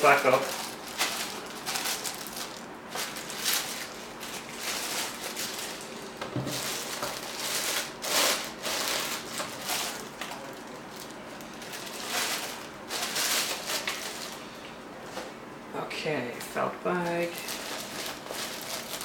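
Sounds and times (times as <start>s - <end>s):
packaging rustling and crinkling: 0.0s - 14.5s, 17.2s - 19.0s.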